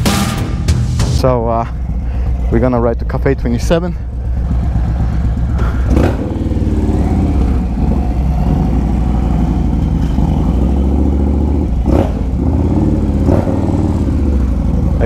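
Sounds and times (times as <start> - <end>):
motorcycle engine at low revs: 1.2 - 15.0.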